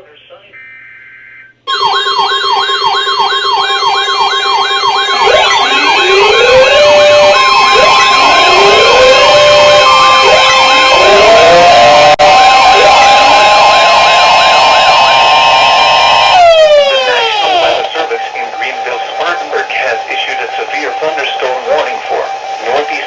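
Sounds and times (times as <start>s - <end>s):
electronic sirens warbling: 0.5s - 23.0s
steady siren tones: 0.5s - 23.0s
sirens winding up in sweeps: 0.6s - 23.0s.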